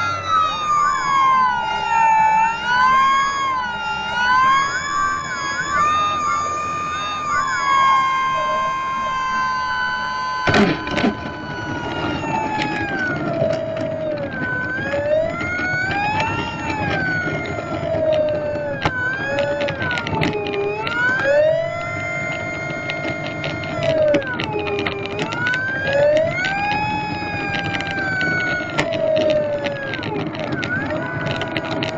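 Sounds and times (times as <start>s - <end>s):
model plane motor whining: 0.0s - 31.9s.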